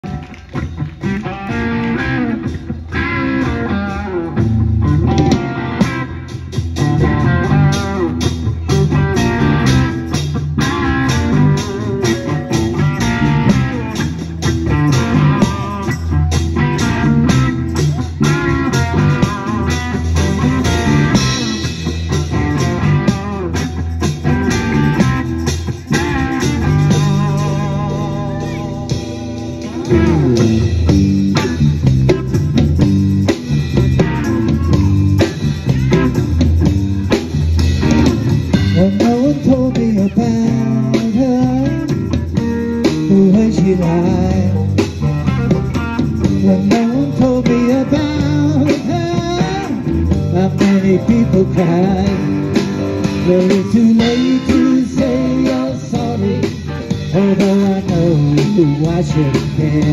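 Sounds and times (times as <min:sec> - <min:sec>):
drums keeping steady beat: 0:00.0 - 0:59.9
live band playing: 0:00.0 - 0:59.9.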